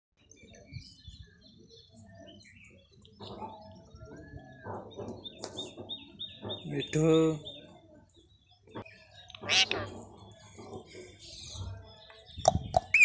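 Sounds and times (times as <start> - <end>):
birds chirping: 0.2 - 13.0
loud bird chatter: 0.2 - 13.0.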